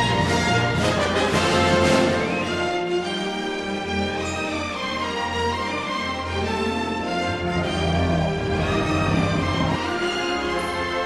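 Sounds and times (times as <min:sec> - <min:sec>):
orchestral music with sustained notes: 0:00.0 - 0:11.0.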